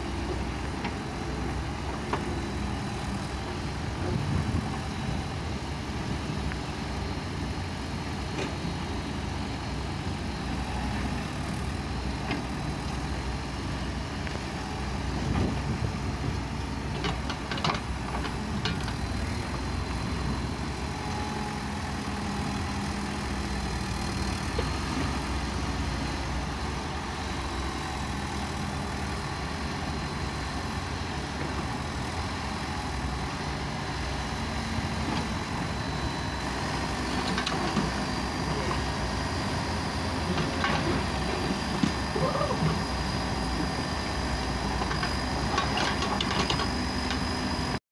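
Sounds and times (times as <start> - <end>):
diesel engine running: 0.0 - 47.8.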